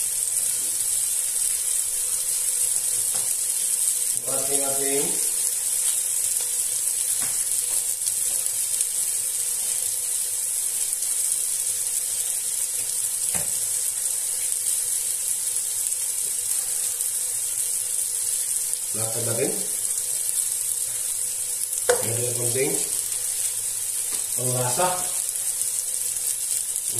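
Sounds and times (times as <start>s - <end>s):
onions sizzling in hot oil: 0.0s - 26.9s.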